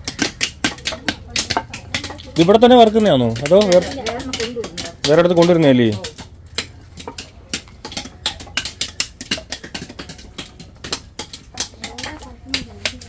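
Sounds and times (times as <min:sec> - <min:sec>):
mallet cracking nuts: 0:00.0 - 0:13.0.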